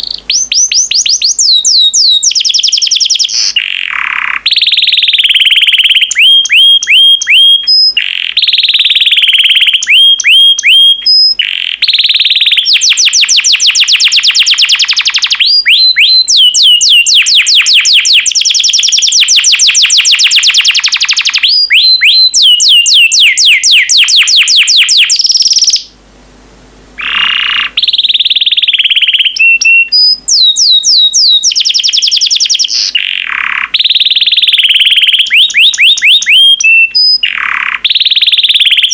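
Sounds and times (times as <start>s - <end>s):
canary singing trills: 0.0s - 26.0s, 27.0s - 38.9s.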